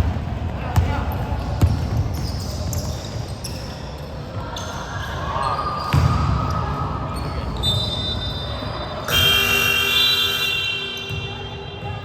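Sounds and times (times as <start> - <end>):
basketball court noise: 0.0 - 12.0.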